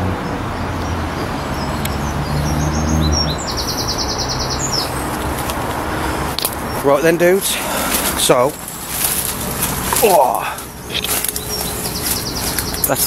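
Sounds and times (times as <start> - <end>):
road traffic drone: 0.0 - 13.0
songbird chirping and trilling: 0.0 - 13.0.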